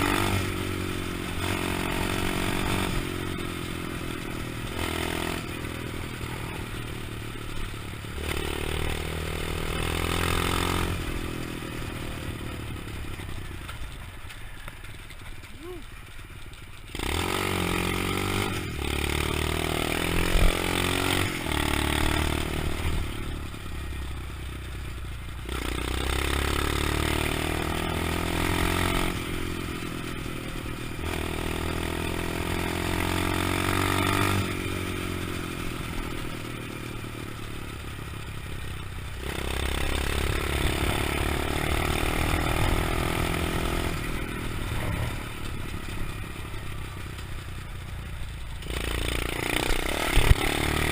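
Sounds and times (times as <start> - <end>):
motorbike engine revving: 0.0 - 16.2, 16.8 - 50.9.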